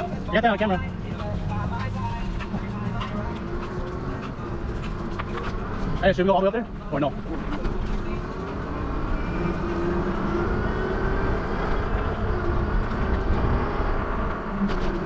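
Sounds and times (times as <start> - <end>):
vehicle rumble: 0.0 - 15.0
faint drifting whine: 0.1 - 15.0.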